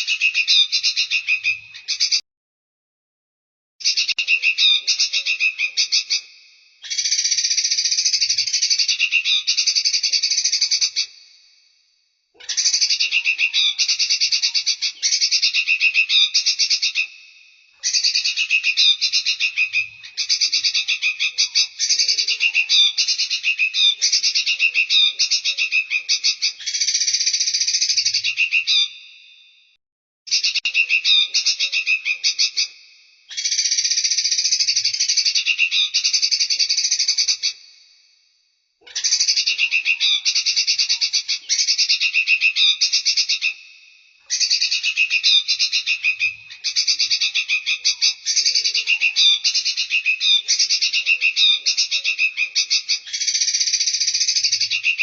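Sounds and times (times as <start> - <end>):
songbird singing: 0.0 - 2.2, 3.8 - 11.3, 12.4 - 29.2, 30.3 - 37.7, 38.8 - 55.0.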